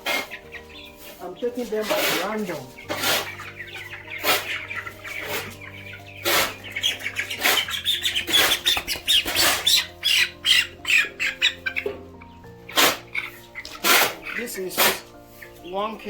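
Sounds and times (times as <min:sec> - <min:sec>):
chickens squawking and cheeping: 0:00.0 - 0:16.0.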